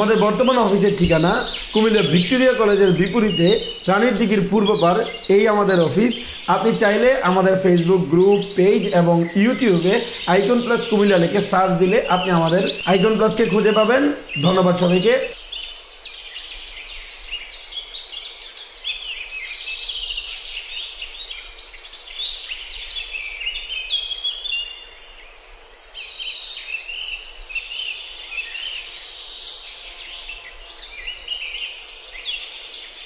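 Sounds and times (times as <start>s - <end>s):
many small birds chirping: 0.0s - 33.0s.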